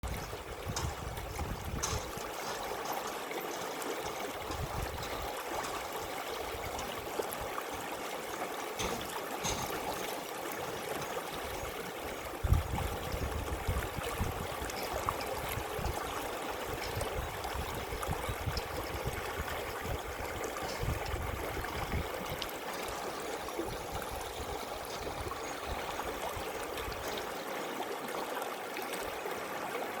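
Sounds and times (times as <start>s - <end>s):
river water babbling: 0.0s - 30.0s.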